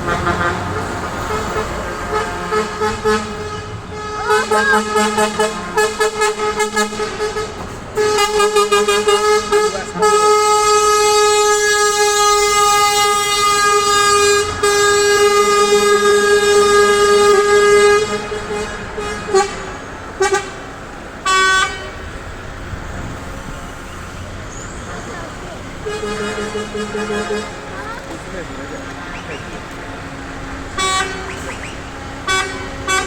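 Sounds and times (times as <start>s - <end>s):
traffic rumble: 0.0s - 33.0s
truck air horns: 0.0s - 33.0s.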